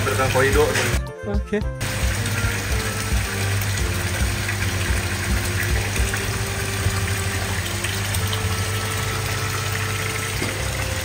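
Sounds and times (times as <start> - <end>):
pond water churning and bubbling: 0.0 - 1.0, 1.8 - 11.0
low machine hum: 1.8 - 11.0.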